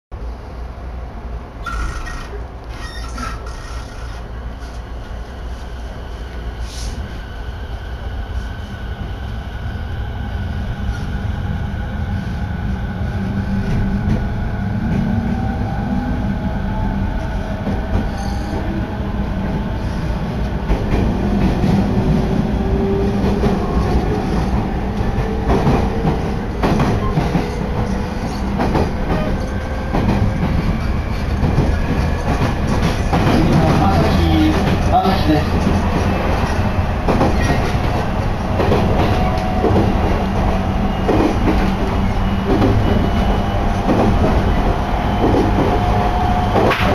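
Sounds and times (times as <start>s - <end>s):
train running rumble: 0.2s - 46.9s.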